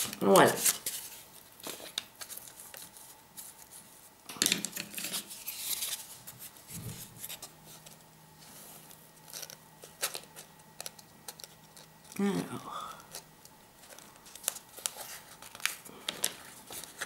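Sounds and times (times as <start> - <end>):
cardboard and paper rustling: 0.0 - 12.4, 13.8 - 17.0.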